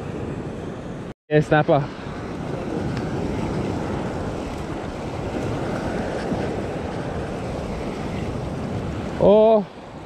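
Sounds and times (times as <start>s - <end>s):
sea swell against rocks: 0.0s - 10.0s
wind buffeting microphone: 0.0s - 10.0s.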